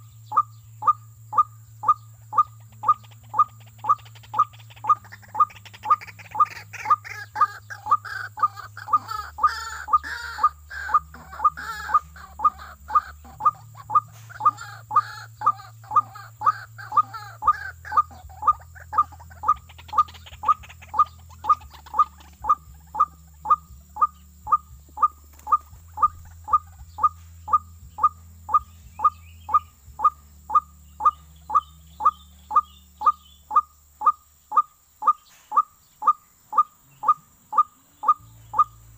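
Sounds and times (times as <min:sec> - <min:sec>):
other birds calling: 0:00.0 - 0:38.9.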